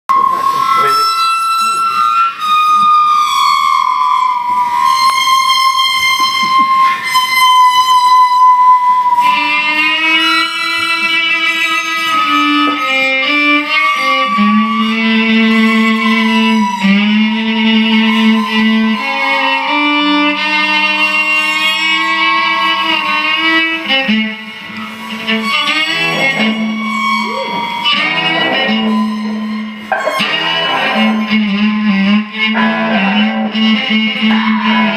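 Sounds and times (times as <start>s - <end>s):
bowed violin melody: 0.1s - 34.9s
low sustained note: 0.1s - 34.9s.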